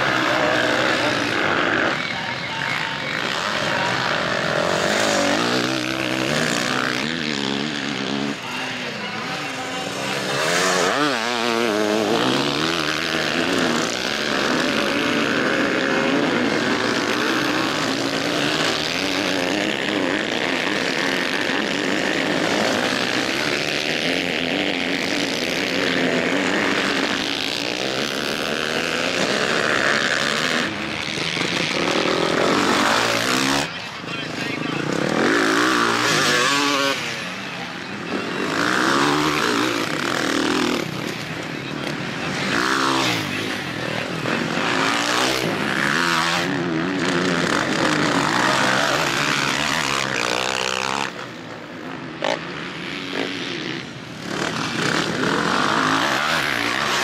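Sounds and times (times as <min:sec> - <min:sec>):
motocross motorcycles revving past: 0:00.0 - 0:57.0.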